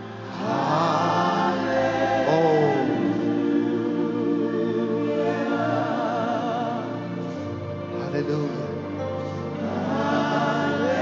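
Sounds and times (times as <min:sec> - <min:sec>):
voices singing: 0:00.0 - 0:08.0, 0:08.8 - 0:11.0
organ chords: 0:00.0 - 0:11.0.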